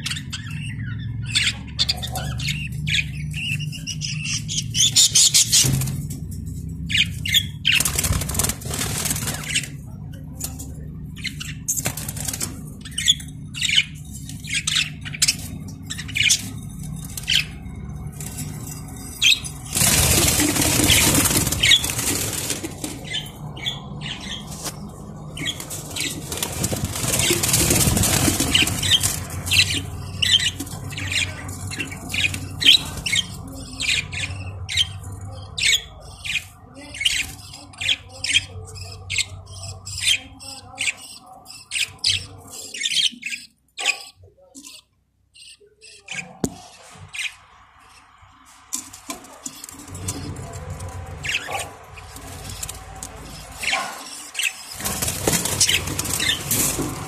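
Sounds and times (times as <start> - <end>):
budgerigars chirping: 0.0 - 57.0
faint low hum: 0.0 - 57.0.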